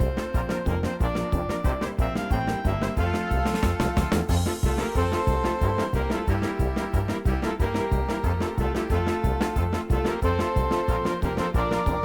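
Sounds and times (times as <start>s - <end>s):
upbeat music with bass beat: 0.0s - 12.0s.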